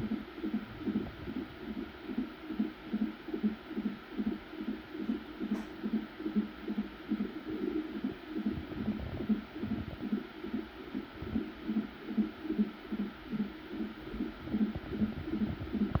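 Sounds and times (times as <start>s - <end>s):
fetal heartbeat on doppler monitor: 0.0s - 16.0s.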